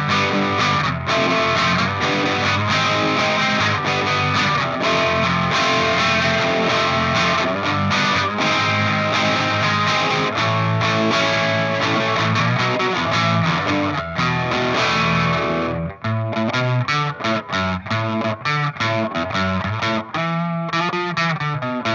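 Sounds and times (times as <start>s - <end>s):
distorted electric guitar: 0.0s - 21.9s.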